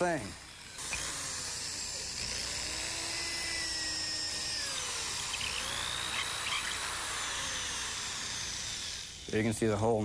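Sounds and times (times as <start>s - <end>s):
electric drill boring wood: 0.0s - 10.0s.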